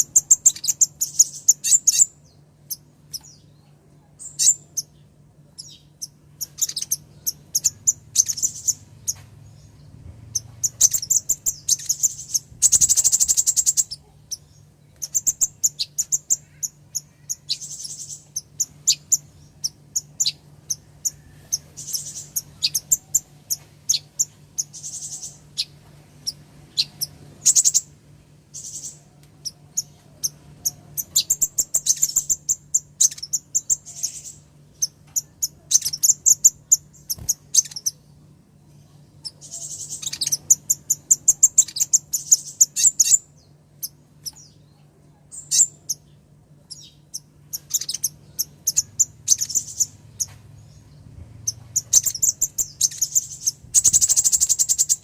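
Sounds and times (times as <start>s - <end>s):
bird chirping high-pitched: 0.0s - 27.9s, 28.5s - 55.0s
bird trill: 0.0s - 27.9s, 28.5s - 38.2s, 38.8s - 55.0s.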